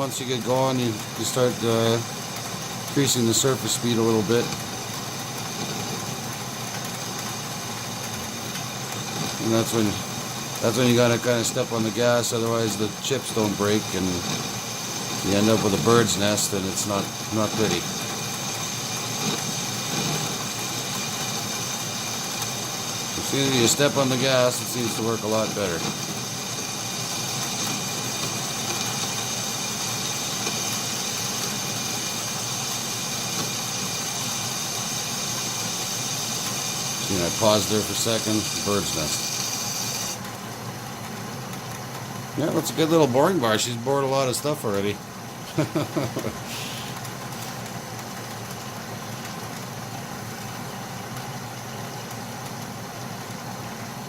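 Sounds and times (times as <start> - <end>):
metal lathe running with high whine: 0.0 - 54.0.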